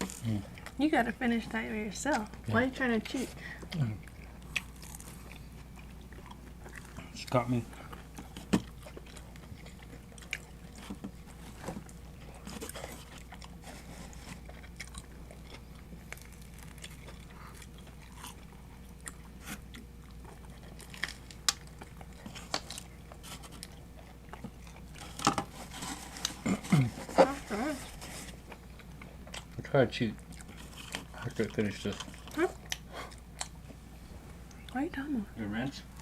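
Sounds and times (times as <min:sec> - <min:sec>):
crunchy chewing of pizza crust: 0:00.0 - 0:34.8.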